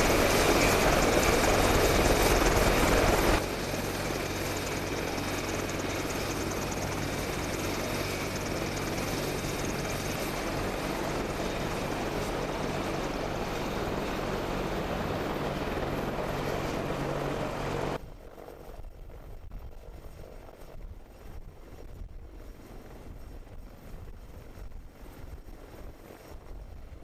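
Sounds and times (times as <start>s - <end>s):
helicopter rotor and turbine: 0.0s - 27.0s.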